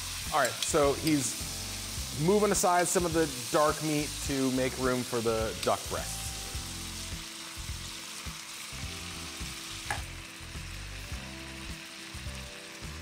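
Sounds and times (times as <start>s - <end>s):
meat and onion sizzling: 0.0s - 13.0s.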